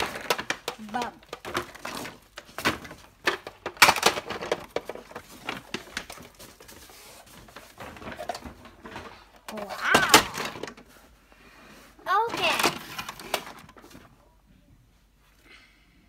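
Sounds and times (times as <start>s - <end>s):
plastic toys clattering: 0.0s - 11.1s, 12.1s - 14.2s.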